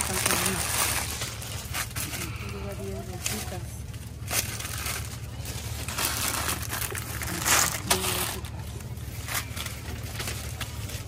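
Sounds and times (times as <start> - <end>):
plastic bags rustling: 0.0 - 11.0
steady low hum: 0.0 - 11.0.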